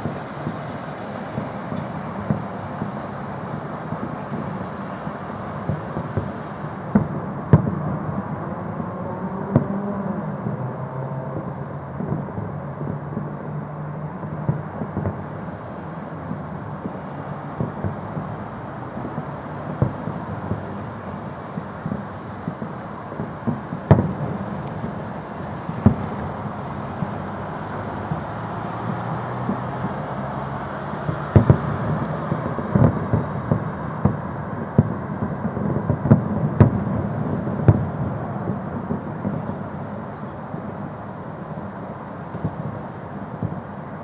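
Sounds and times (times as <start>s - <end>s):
city traffic rumble: 0.0s - 44.0s
fireworks bangs: 0.0s - 44.0s.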